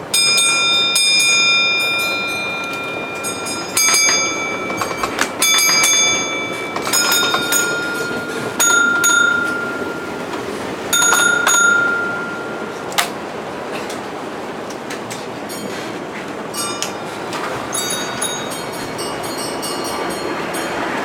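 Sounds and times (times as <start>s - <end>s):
rumble of model trains: 0.0s - 21.0s
block bell ringing: 0.1s - 13.0s, 16.5s - 20.8s.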